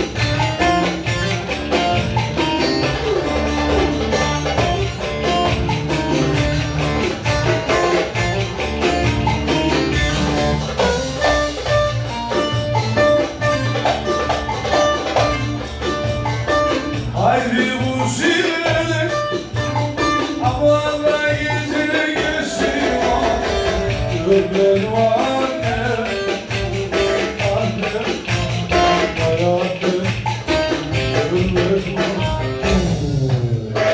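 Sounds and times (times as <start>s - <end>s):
folk dance music: 0.0s - 33.9s
plucked string instrument: 0.0s - 33.9s
tambourine percussion beat: 0.0s - 33.9s.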